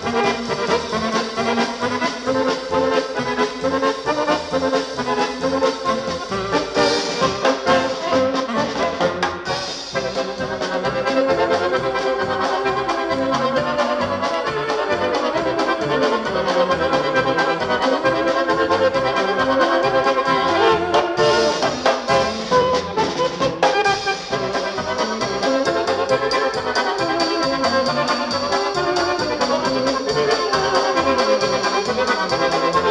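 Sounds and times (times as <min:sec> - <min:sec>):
polka band playing: 0:00.0 - 0:32.9.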